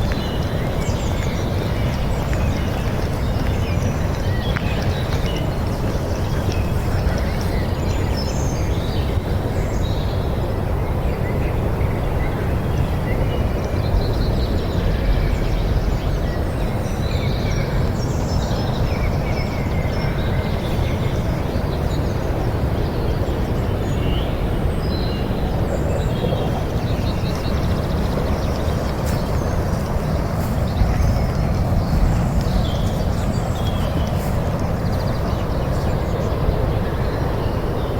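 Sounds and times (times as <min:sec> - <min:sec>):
small birds chirping: 0:00.0 - 0:10.5, 0:12.1 - 0:37.9.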